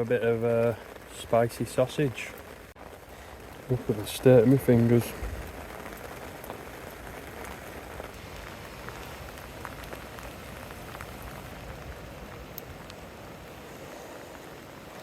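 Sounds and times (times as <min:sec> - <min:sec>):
raindrop ticks: 0:00.0 - 0:15.0
steady rain falling: 0:00.0 - 0:15.0.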